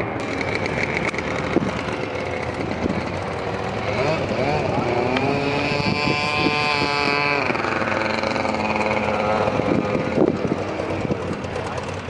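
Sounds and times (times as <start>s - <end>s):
car engine revving hard: 0.2s - 11.3s.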